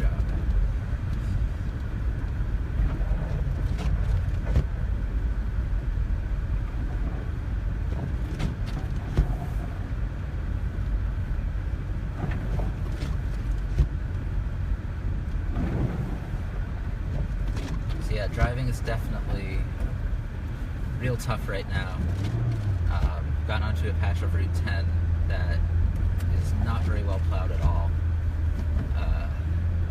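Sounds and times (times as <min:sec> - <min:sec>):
car engine and tyres rumbling: 0:00.0 - 0:29.9.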